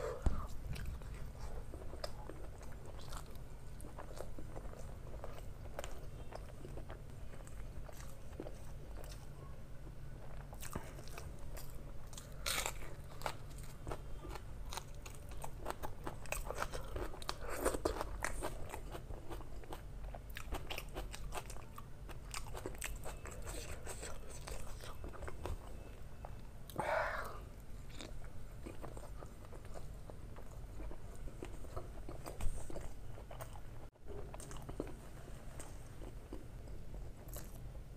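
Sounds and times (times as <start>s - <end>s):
person chewing food: 0.0s - 9.4s, 10.2s - 37.8s.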